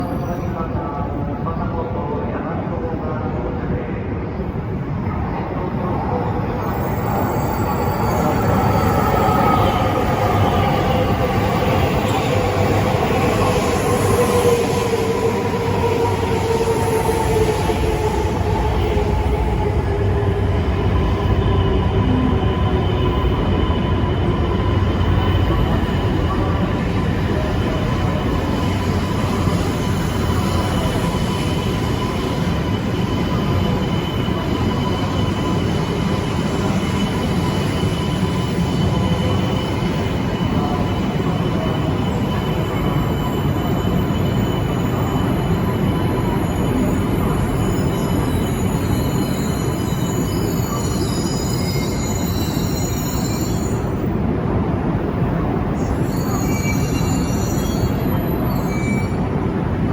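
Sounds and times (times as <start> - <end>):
bullet train rumbling: 0.0 - 59.9
train whine: 6.0 - 59.9.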